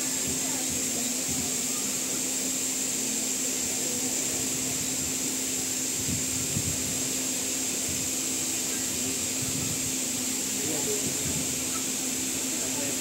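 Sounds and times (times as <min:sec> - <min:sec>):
train running on track: 0:00.0 - 0:13.0.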